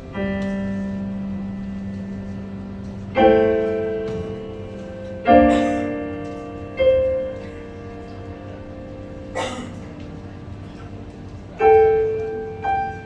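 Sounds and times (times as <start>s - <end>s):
digital piano chords: 0.0s - 13.0s.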